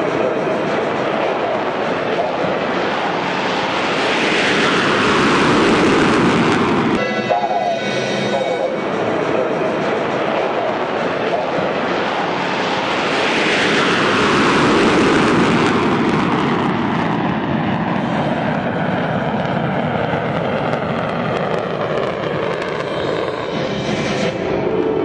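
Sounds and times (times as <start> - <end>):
jet aircraft flying past: 0.0 - 25.0.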